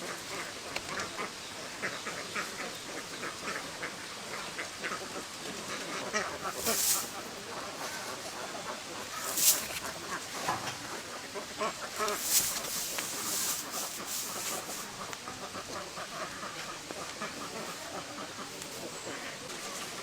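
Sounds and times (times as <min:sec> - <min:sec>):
ducks quacking: 0:00.1 - 0:20.0.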